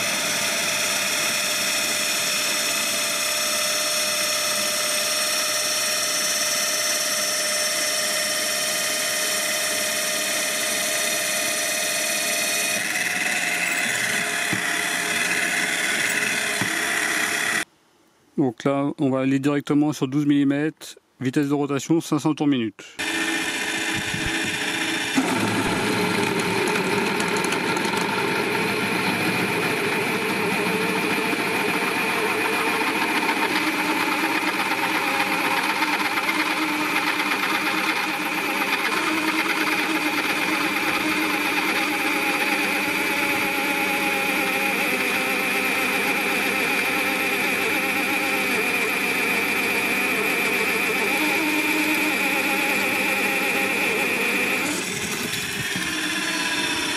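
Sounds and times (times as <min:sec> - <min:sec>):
pillar drill cutting through steel: 0:00.0 - 0:17.7, 0:23.0 - 0:56.9.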